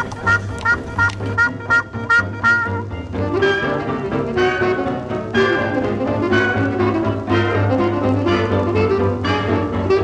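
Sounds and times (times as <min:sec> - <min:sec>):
jazz band with brass: 0:00.0 - 0:10.0.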